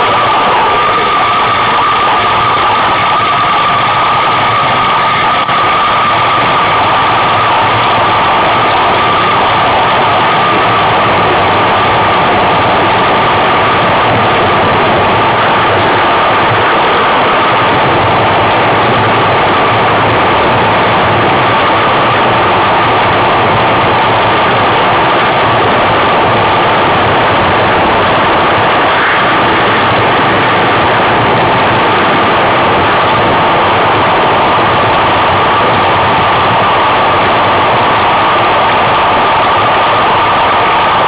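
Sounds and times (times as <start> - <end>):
even hum: 0.0 - 41.0.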